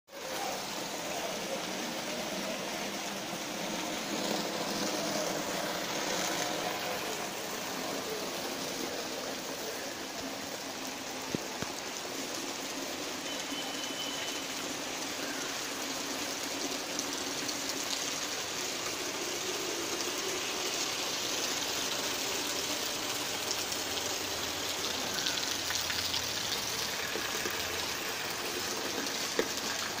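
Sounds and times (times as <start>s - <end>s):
rain falling on foliage: 0.1s - 30.0s
rainwater rushing in channel: 0.1s - 30.0s.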